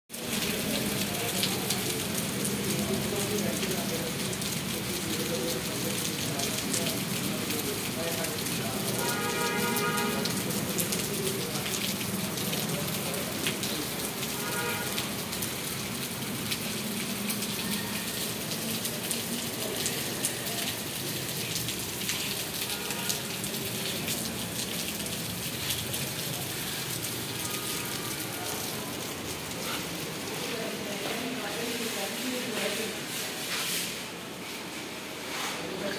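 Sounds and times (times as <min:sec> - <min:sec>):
heavy rain on pavement and trees: 0:00.1 - 0:35.9.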